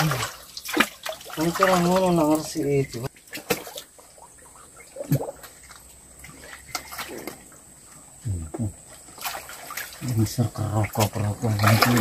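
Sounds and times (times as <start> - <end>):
splashing in muddy water: 0.0 - 7.6, 8.5 - 12.0.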